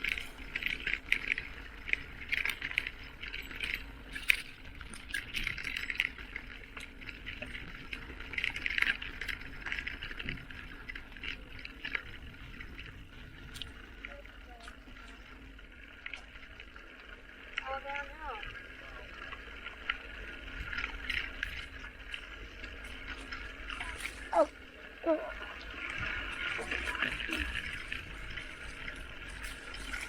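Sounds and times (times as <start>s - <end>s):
bicycle rattling and clicking: 0.0s - 30.0s.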